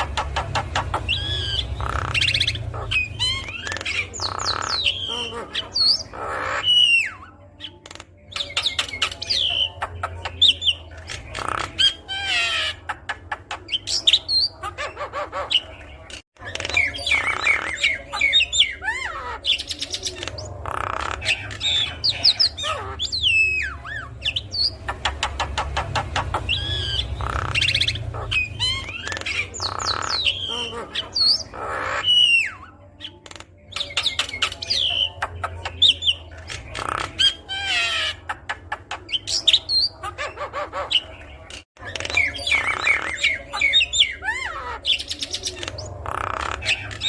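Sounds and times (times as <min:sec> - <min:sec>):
bird singing chattering song: 0:00.0 - 0:47.0.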